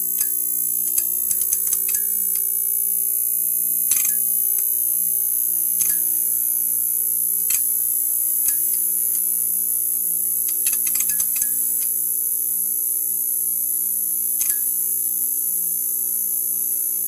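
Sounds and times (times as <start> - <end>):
neon sign electrical buzz: 0.0 - 17.0.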